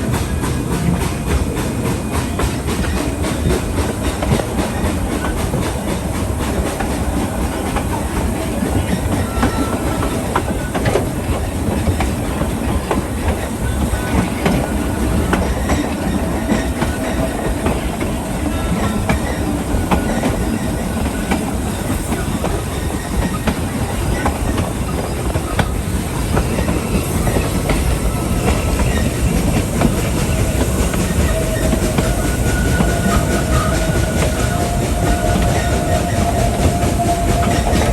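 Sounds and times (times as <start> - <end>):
clickety-clack of rail joints: 0.0 - 37.9
train wheels rumbling on track: 0.0 - 37.9
wheel squeals: 0.0 - 37.9.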